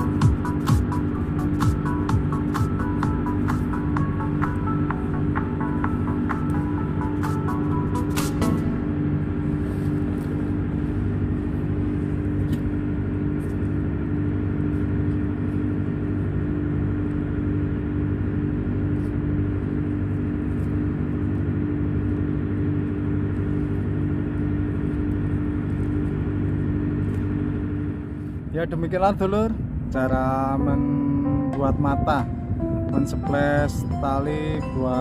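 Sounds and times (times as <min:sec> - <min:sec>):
ship machinery drone: 0:00.0 - 0:35.0.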